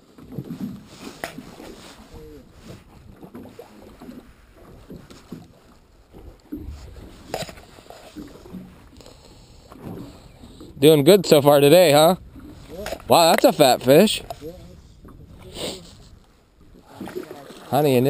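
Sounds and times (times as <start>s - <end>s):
water splashing against boat: 0.0s - 18.0s.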